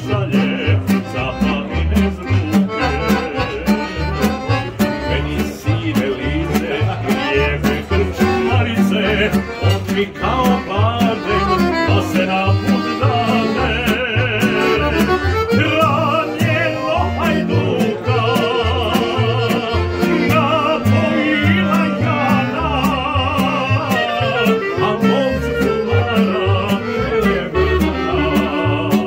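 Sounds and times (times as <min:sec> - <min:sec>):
accordion chords: 0:00.0 - 0:29.0
double bass plucking: 0:00.0 - 0:29.0.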